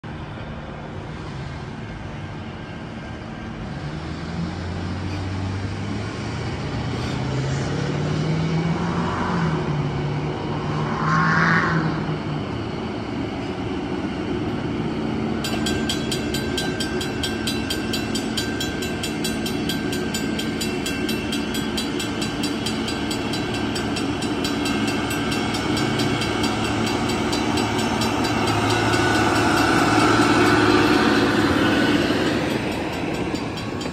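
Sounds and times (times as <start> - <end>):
diesel engines running: 0.1 - 33.9.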